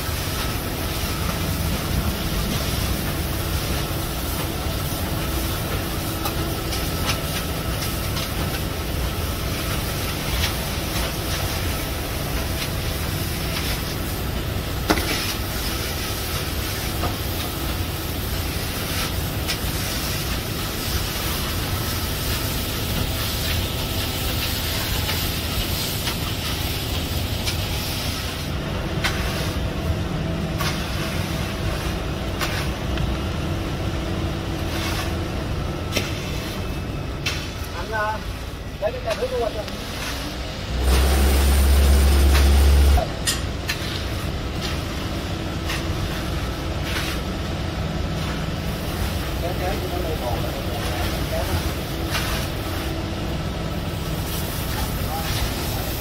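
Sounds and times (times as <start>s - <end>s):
concrete pump rumbling: 0.0s - 56.0s.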